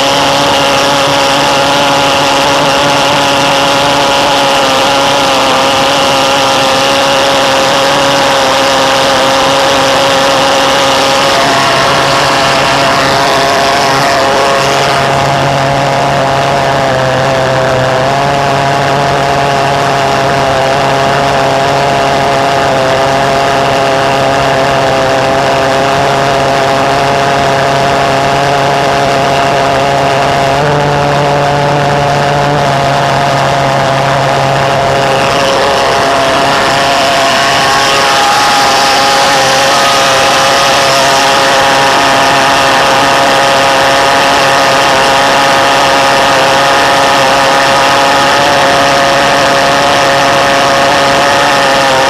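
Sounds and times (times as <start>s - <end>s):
pulse jet engine drone: 0.0s - 52.0s.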